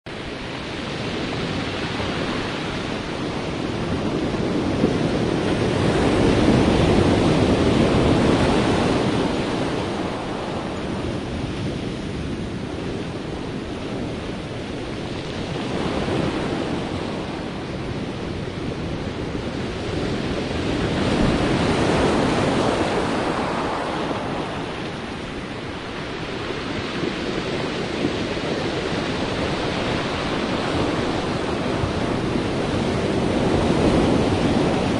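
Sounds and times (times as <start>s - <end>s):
sea waves breaking ashore: 0.1s - 34.9s.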